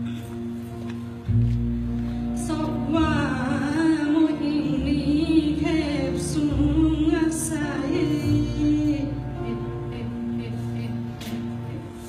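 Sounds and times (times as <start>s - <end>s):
acoustic guitars: 0.0s - 12.0s
cello: 0.0s - 12.0s
double bass: 0.0s - 12.0s
woman singing with vibrato: 2.3s - 12.0s.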